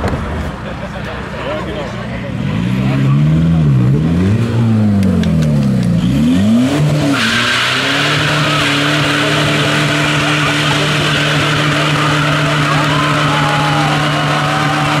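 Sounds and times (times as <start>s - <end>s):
car engine revving: 1.9s - 15.0s.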